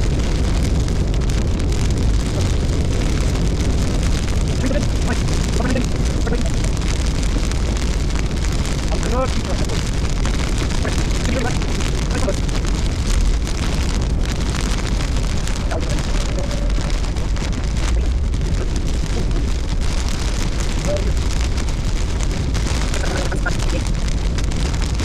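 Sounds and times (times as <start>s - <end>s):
road noise: 0.0s - 25.0s.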